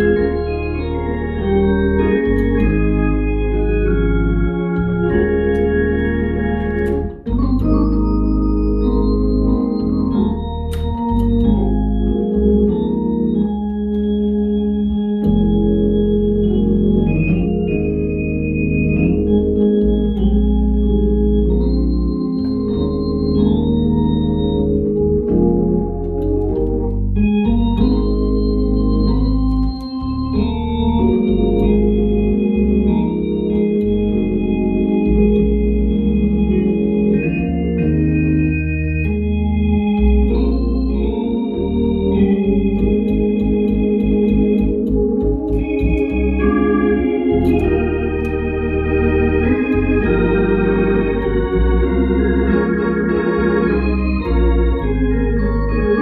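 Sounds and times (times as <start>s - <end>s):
organ gospel music: 0.0s - 56.0s.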